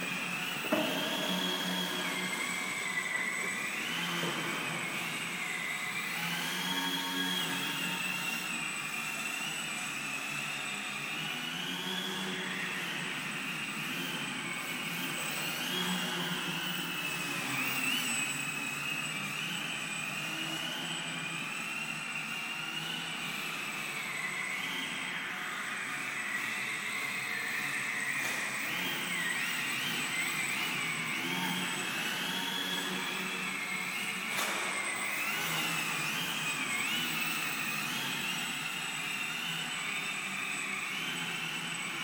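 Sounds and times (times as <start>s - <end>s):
model aeroplane motor whine: 0.0s - 42.0s.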